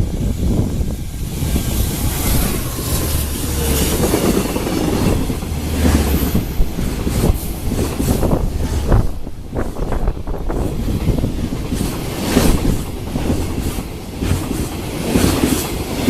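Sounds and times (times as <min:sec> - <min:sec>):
freight train passing: 0:00.0 - 0:16.0
wheels clicking over rail joints: 0:01.6 - 0:16.0.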